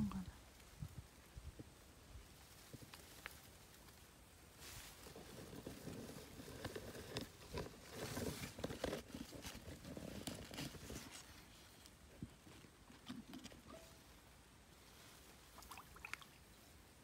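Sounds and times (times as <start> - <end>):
rustling grass and leaves: 0.0 - 17.0.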